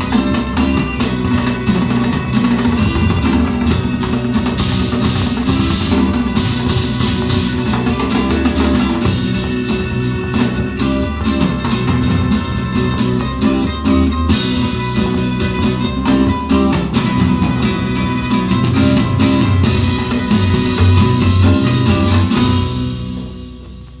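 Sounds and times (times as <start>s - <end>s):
music with guitar and drums: 0.0s - 24.0s.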